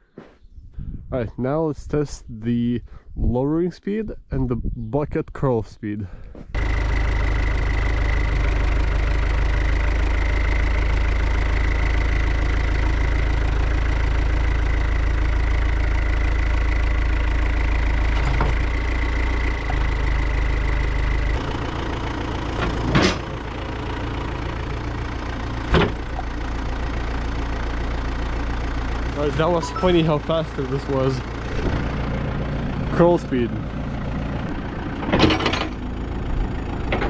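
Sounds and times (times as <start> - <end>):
diesel engine of loader running: 6.1 - 37.0.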